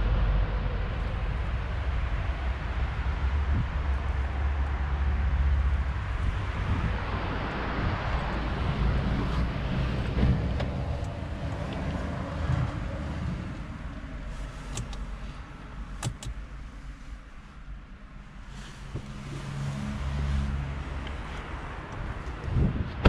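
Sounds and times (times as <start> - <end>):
low rumble and hiss: 0.0 - 23.0.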